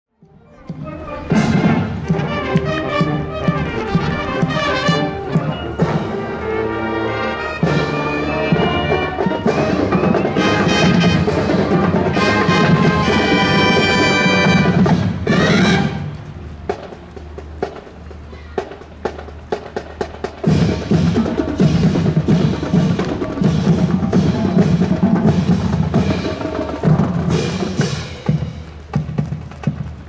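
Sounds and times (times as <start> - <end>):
trumpets and trombones: 0.4 - 16.8, 20.4 - 28.8
marching drums and percussion: 0.5 - 30.0.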